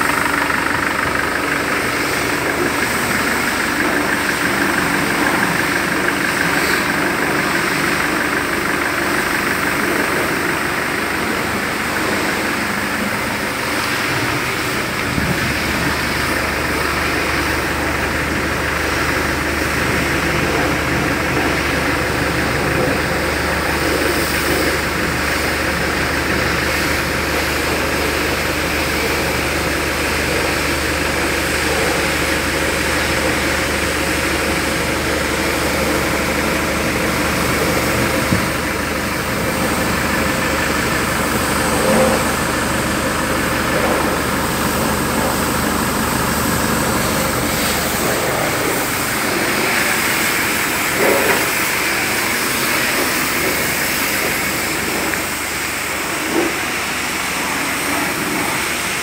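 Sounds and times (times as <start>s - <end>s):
deep engine rumble: 0.0s - 59.0s
engine idling: 0.0s - 59.0s.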